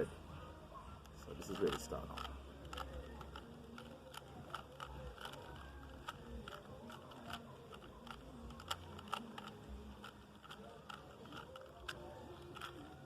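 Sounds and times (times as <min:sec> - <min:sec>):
plastic cube clicks: 0:01.4 - 0:13.0.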